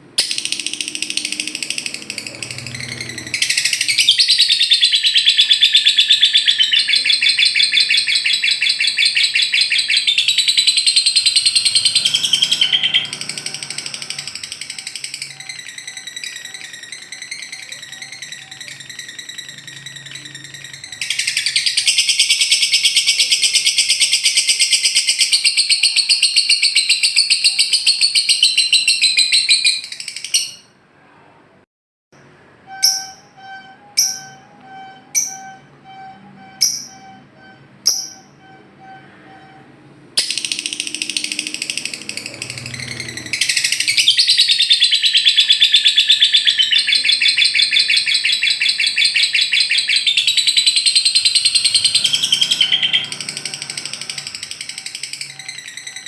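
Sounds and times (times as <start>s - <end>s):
bird chattering trill: 0.2s - 30.7s, 40.2s - 56.0s
sharp bird chirps: 0.2s - 30.8s, 32.7s - 39.6s, 40.2s - 56.0s.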